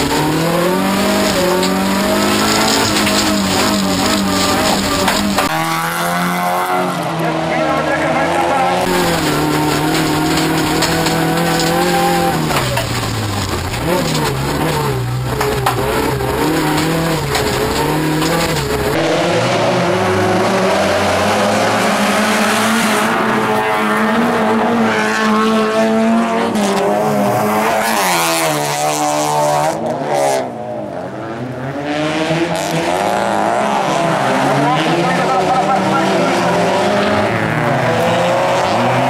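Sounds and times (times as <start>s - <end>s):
cars racing past: 0.0s - 39.0s
rally car engines revving: 0.0s - 39.0s.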